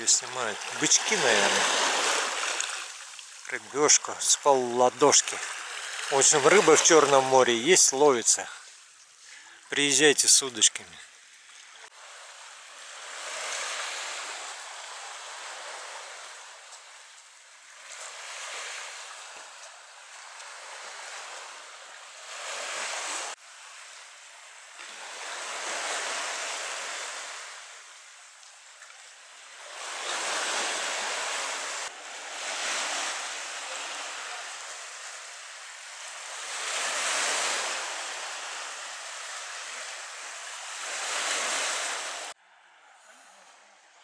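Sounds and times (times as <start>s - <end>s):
waves washing onto pebble beach: 0.0s - 9.0s, 11.8s - 24.0s, 24.8s - 28.1s, 29.4s - 42.4s.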